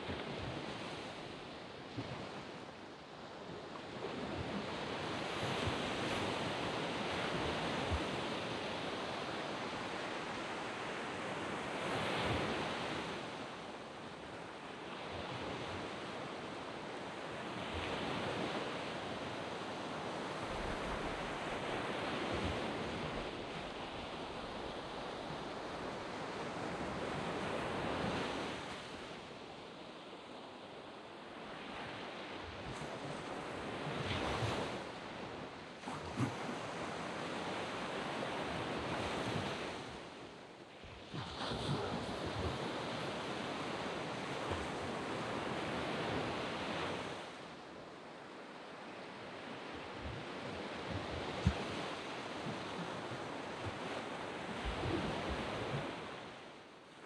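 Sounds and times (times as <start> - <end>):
waves breaking on sand beach: 0.0 - 57.0.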